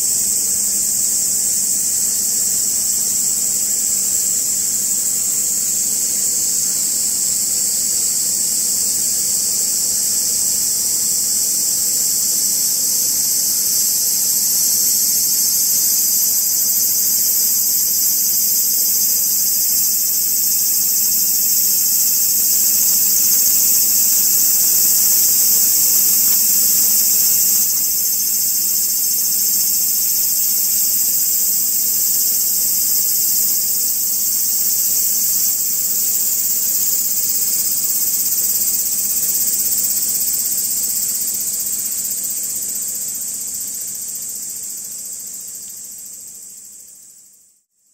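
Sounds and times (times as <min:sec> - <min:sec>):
insects singing: 0:00.0 - 0:47.3.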